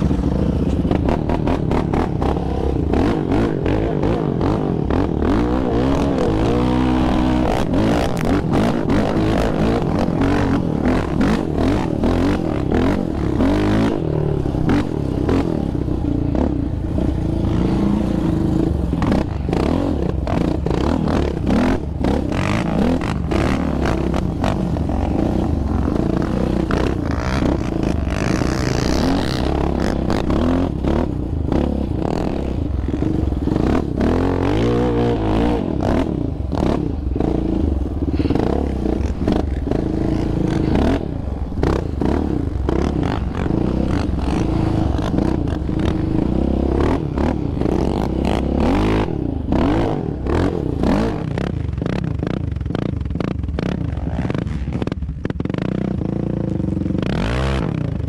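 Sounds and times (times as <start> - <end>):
bumps and rattles of vehicle: 0.0 - 58.0
quad engine revving: 0.0 - 58.0.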